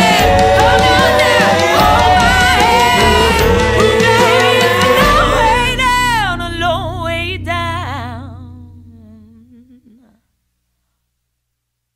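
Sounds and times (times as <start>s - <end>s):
person singing with vibrato: 0.0s - 10.2s.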